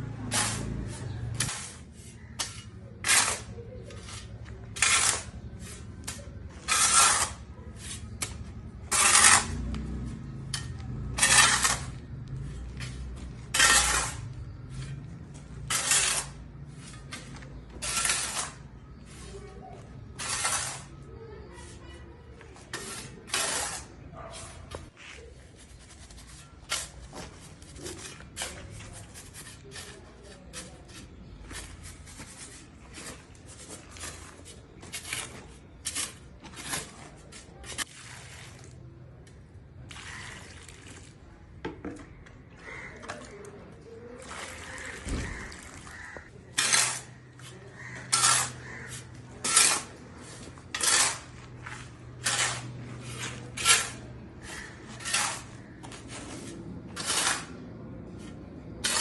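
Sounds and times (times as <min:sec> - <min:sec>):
metal tool scraping wet mortar: 0:00.0 - 0:41.0, 0:42.6 - 0:59.0.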